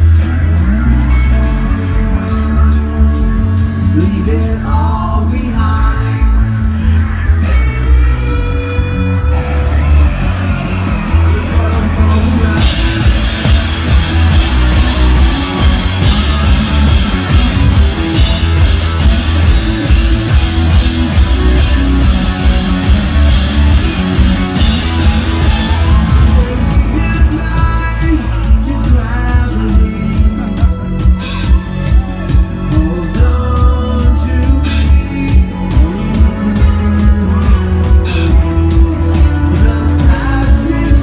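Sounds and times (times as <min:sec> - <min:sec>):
live rock band playing loud: 0:00.0 - 0:41.0.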